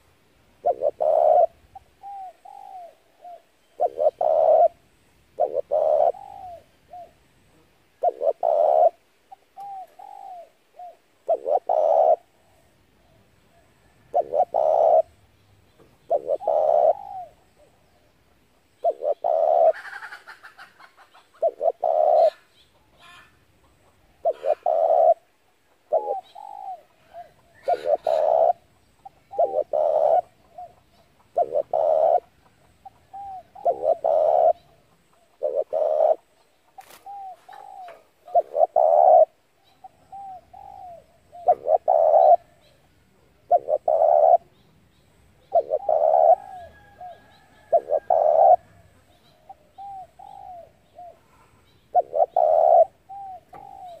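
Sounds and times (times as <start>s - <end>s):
dove cooing: 0.0s - 15.2s, 15.8s - 18.1s, 18.7s - 44.6s, 45.4s - 54.0s.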